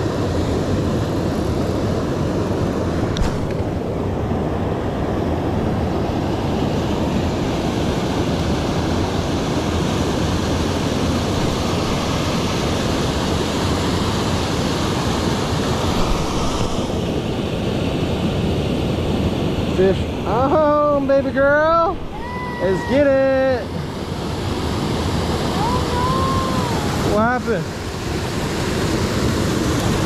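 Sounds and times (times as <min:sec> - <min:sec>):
flowing river water: 0:00.0 - 0:30.0.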